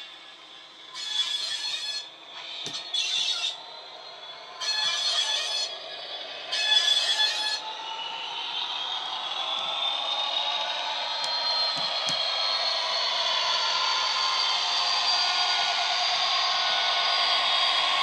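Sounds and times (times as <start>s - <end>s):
diesel engine with rising whine: 0.0s - 18.0s.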